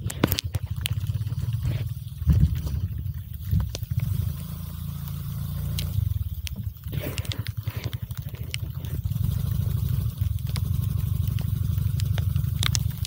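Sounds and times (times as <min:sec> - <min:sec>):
scooter engine low throb: 0:00.0 - 0:13.0
sharp ticks: 0:00.0 - 0:13.0.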